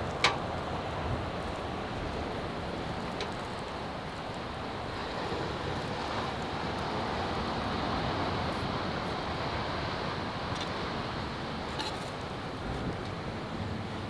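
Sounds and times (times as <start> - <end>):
sea surf: 0.0 - 14.0
wind: 0.0 - 14.0.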